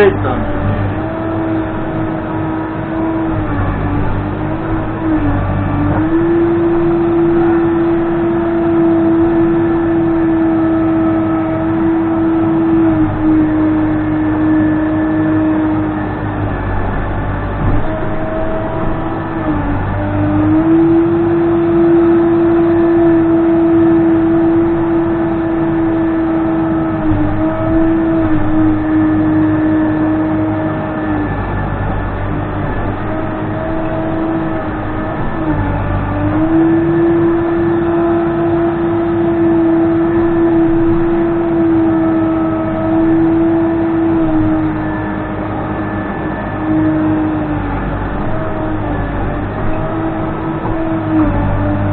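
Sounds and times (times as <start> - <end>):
backhoe diesel engine running hard: 0.0 - 51.9.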